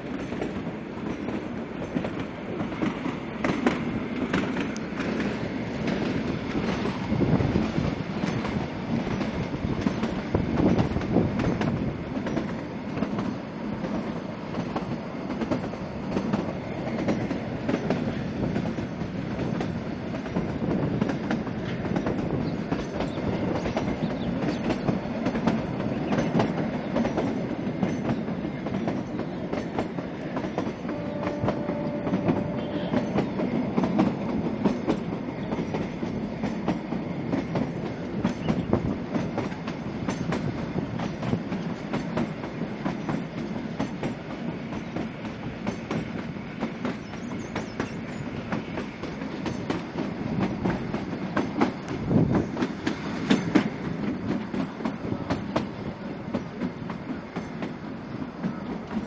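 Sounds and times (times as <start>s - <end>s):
train carriage rumbling and rattling: 0.0s - 59.0s
wheels clattering on track: 0.0s - 59.0s.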